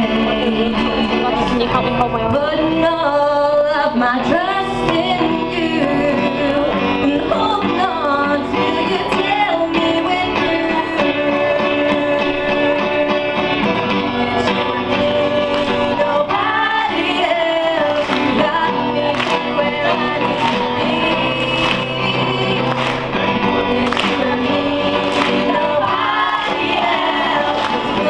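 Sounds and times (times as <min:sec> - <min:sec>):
instrumental backing: 0:00.0 - 0:28.0
person singing: 0:00.0 - 0:28.0.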